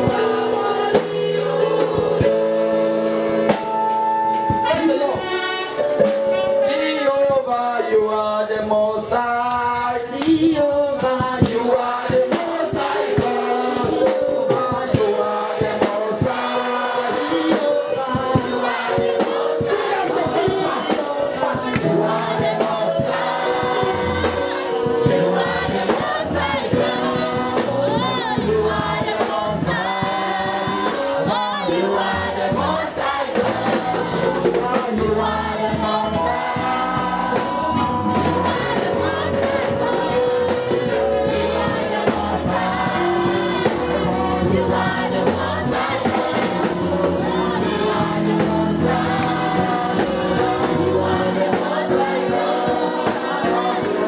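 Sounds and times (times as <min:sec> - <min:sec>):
choir singing gospel with band: 0:00.0 - 0:54.0.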